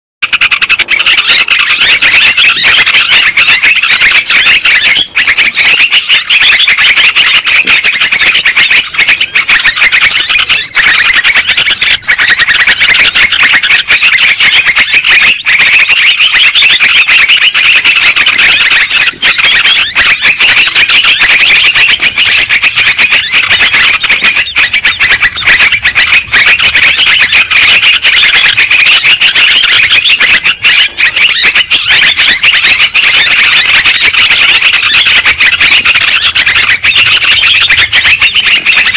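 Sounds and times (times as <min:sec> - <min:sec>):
bulbuls chattering calls: 0:00.2 - 0:38.9.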